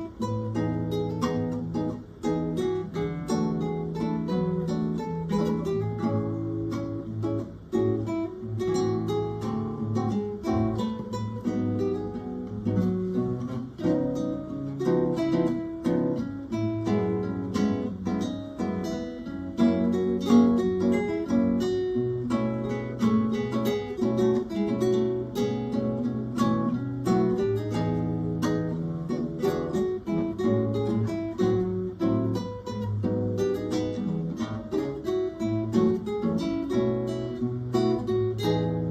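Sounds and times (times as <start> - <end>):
acoustic guitar music: 0.0 - 38.9.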